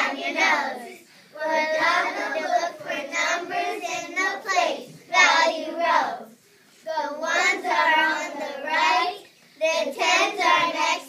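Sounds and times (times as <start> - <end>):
children singing in unison: 0.0 - 6.3, 6.9 - 11.0.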